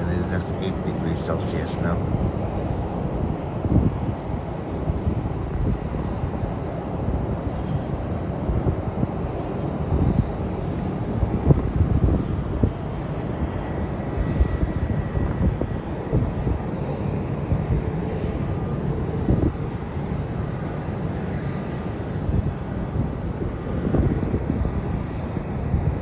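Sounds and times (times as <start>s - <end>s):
jet engines roaring: 0.0s - 26.0s
wind buffeting microphone: 0.0s - 26.0s.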